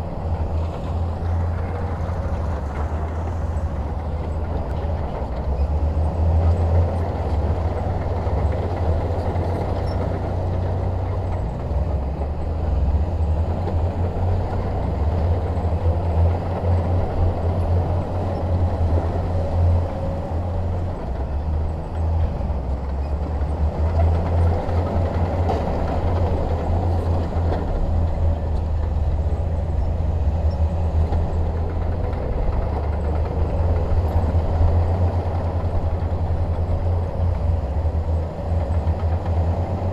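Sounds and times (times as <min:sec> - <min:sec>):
bulldozer diesel engine drone: 0:00.0 - 0:39.9.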